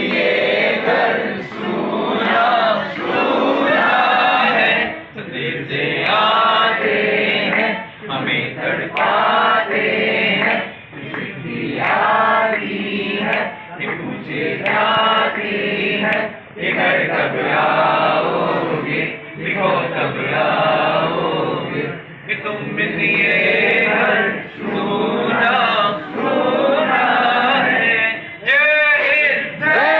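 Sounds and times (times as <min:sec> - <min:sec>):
group of voices reciting in unison: 0:00.0 - 0:29.9.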